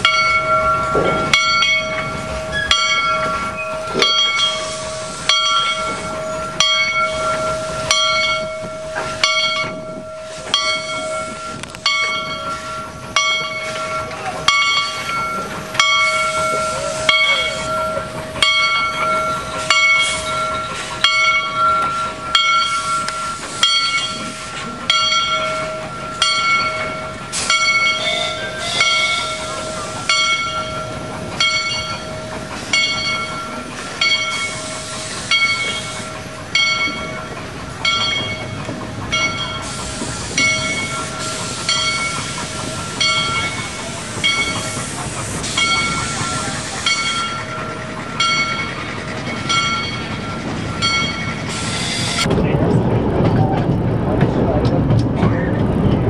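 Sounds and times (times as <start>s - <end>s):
steam locomotive exhaust chuffing: 0.0s - 56.0s.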